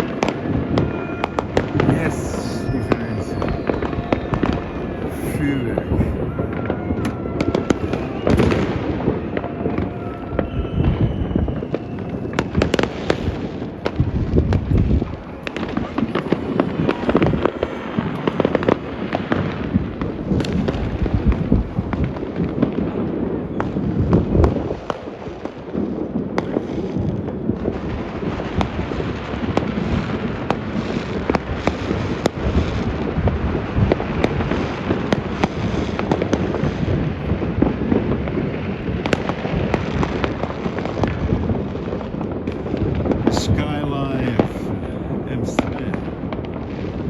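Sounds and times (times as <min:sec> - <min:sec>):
distant fireworks bangs and crackles: 0:00.0 - 0:47.0.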